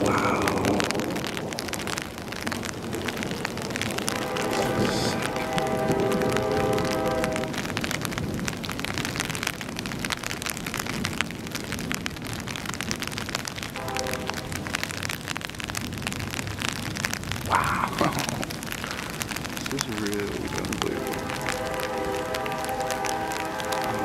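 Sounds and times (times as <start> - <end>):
heavy rain on an umbrella: 0.0 - 24.0.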